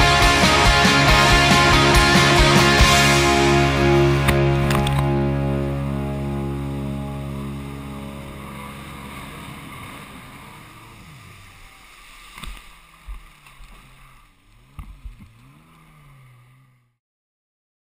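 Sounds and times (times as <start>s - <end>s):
jet ski engine: 0.0s - 17.0s.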